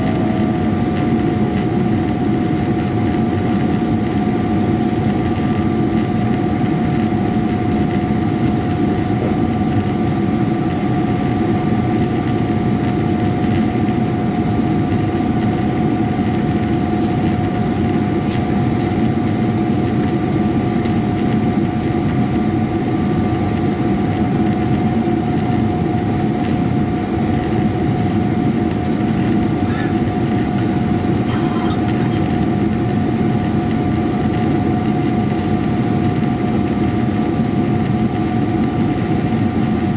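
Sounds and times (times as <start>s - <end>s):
high engine whine: 0.0s - 39.9s
jet engine roar in cabin: 0.0s - 39.9s.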